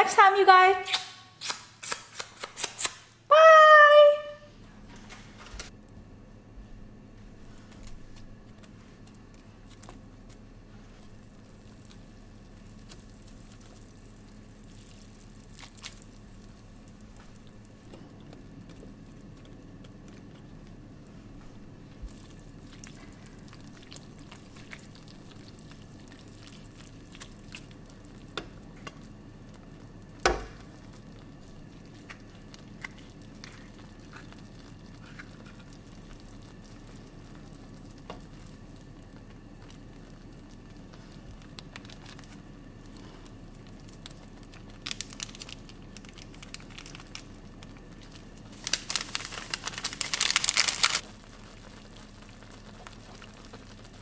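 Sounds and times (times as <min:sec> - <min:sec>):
dense crackling rush: 0:07.5 - 0:54.0.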